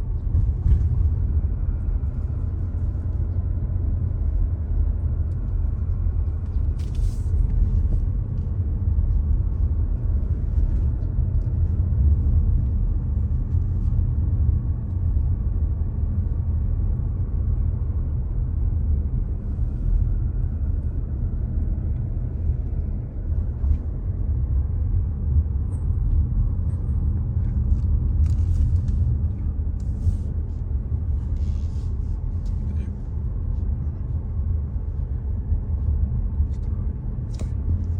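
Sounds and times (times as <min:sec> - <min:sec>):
car driving rumble: 0:00.0 - 0:37.9.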